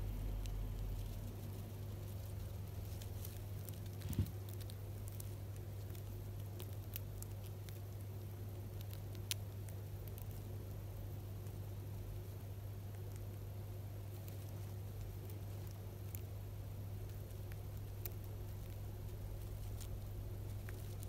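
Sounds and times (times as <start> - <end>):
hamster crunching snack: 0.0 - 21.0
low steady hum: 0.0 - 21.0.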